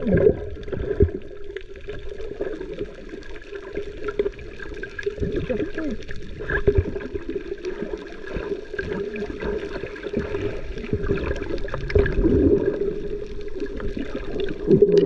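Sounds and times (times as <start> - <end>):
sea water sloshing and gurgling: 0.0 - 15.0.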